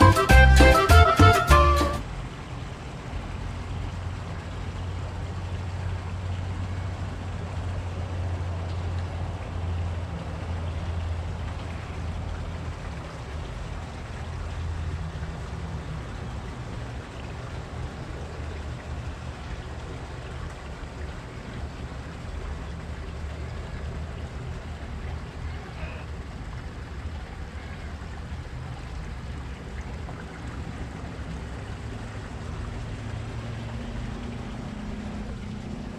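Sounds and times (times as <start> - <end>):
water rushing in pond: 0.0 - 35.9.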